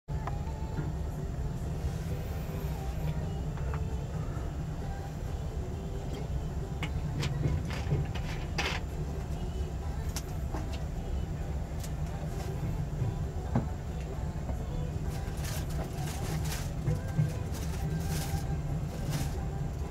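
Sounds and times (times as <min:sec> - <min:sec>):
train coach rumble: 0:00.1 - 0:19.9.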